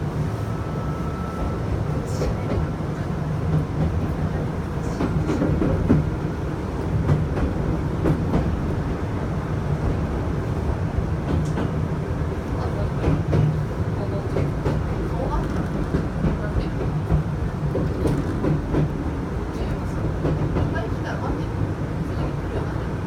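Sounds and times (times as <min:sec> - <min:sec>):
train interior low rumble: 0:00.0 - 0:23.0.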